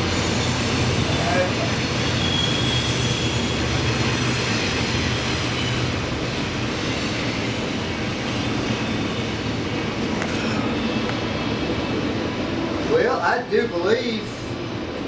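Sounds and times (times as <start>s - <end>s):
train rumbling by: 0.0s - 15.0s.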